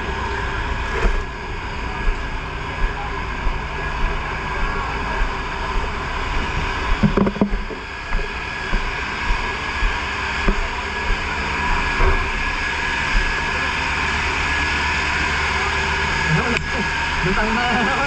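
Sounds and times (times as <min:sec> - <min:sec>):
fire truck engine running: 0:00.0 - 0:18.0.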